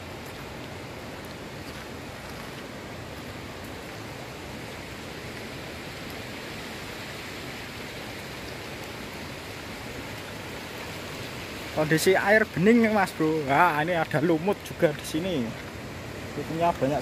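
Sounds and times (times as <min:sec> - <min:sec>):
river flowing over stones: 0:00.0 - 0:17.0.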